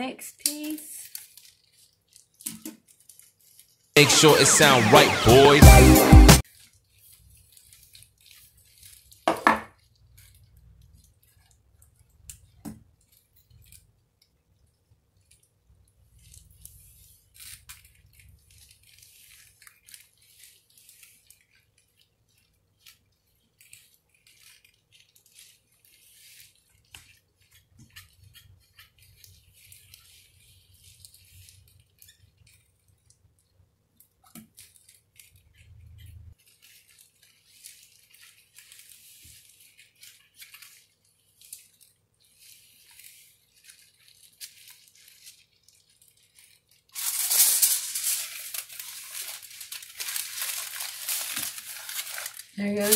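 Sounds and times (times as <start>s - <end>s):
aluminium foil crinkling: 0.0s - 4.0s, 6.4s - 52.9s.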